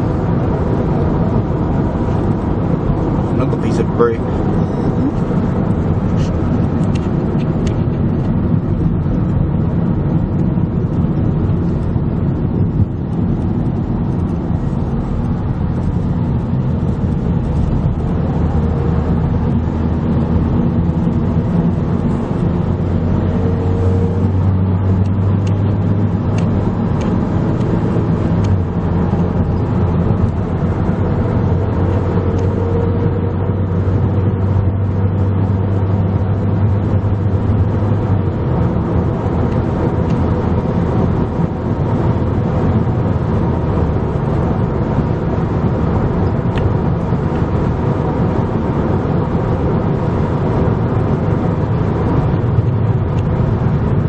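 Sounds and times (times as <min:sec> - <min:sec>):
moving car road noise: 0:00.0 - 0:54.0.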